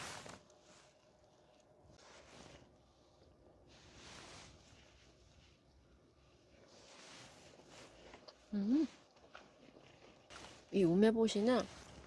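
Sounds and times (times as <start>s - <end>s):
faint soft noise: 0.0s - 12.0s.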